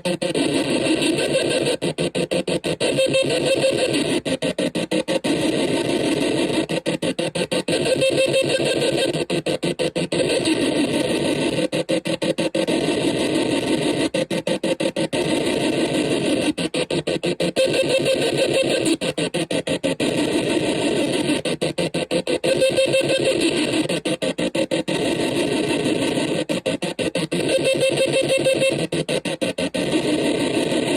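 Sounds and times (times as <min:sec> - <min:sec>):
electronic drone: 0:00.0 - 0:30.9
harsh stuttering electronic noise: 0:00.0 - 0:30.9.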